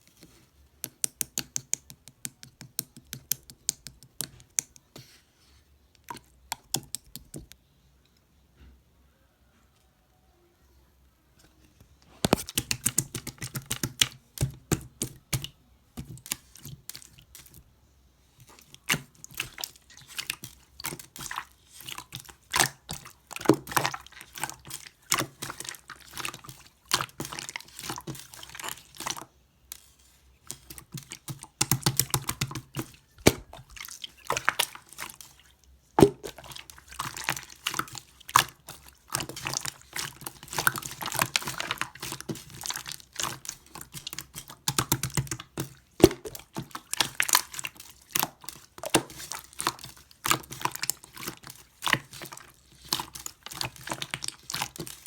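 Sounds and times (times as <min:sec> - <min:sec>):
slime squelching with wet clicks: 0:00.1 - 0:05.1, 0:05.9 - 0:08.3, 0:12.2 - 0:17.7, 0:18.4 - 0:55.0.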